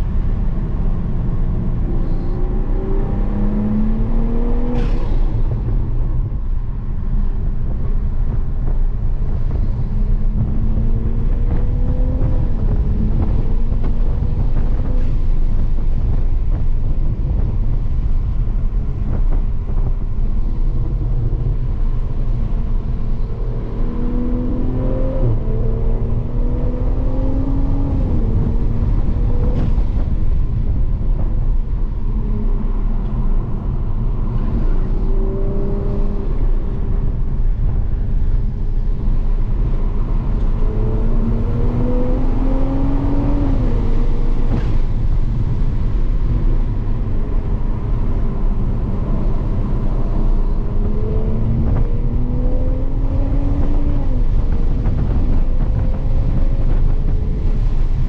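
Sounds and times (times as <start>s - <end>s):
car engine accelerating: 0.0s - 58.0s
low cabin rumble: 0.0s - 58.0s.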